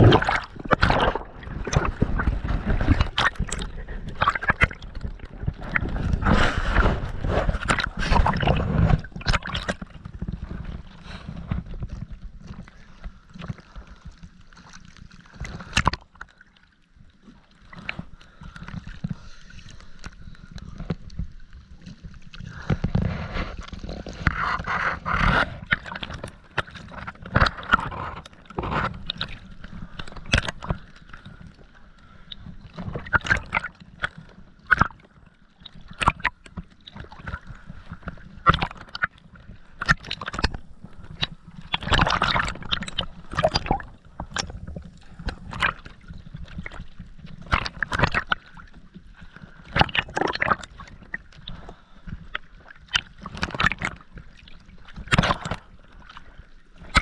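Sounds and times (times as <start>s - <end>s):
bubbles gurgling underwater: 0.0s - 16.3s, 19.8s - 57.0s.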